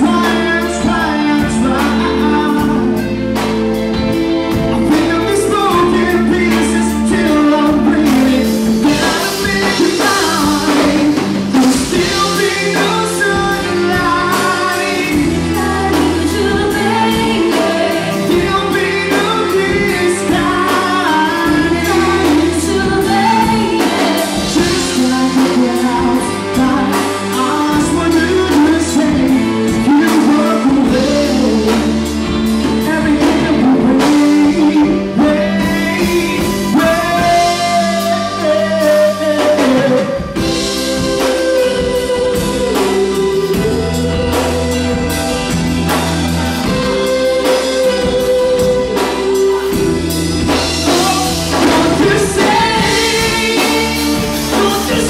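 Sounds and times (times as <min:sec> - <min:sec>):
bass: 0:00.0 - 0:55.0
drum kit: 0:00.0 - 0:55.0
electric guitar: 0:00.0 - 0:55.0
man singing: 0:00.0 - 0:55.0.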